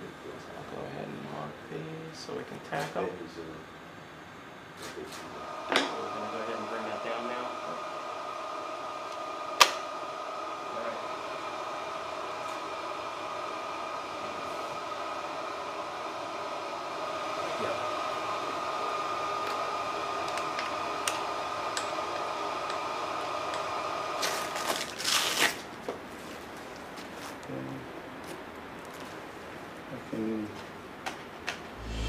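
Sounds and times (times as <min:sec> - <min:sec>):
fan-like hum with high whine: 0:00.0 - 0:32.0.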